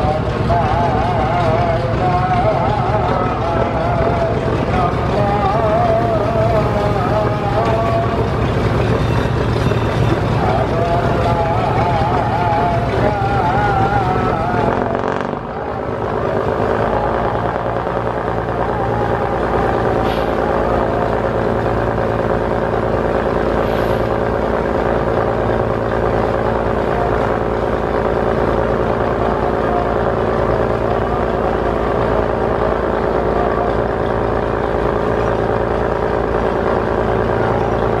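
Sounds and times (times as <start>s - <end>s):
boat diesel engine running: 0.0s - 38.0s.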